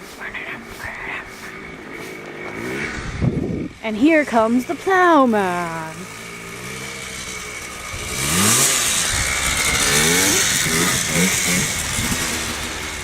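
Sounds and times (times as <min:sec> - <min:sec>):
tyres hissing on snow: 0:00.0 - 0:03.1, 0:04.1 - 0:13.0
truck engine revving: 0:00.4 - 0:13.0.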